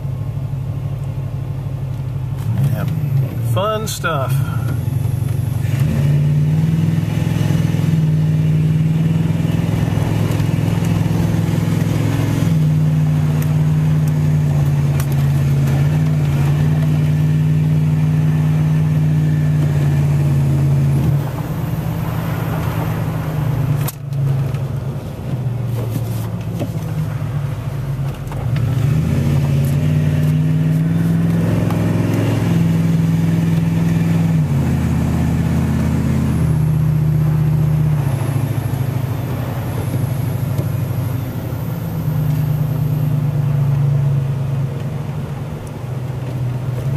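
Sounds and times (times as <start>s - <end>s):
truck engine and road noise: 0.0s - 46.9s.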